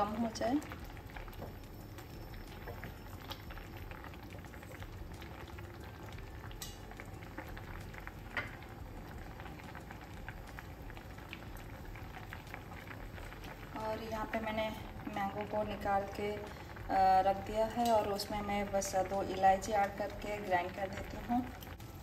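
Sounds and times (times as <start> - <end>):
rice bubbling in boiling water: 0.0 - 22.0.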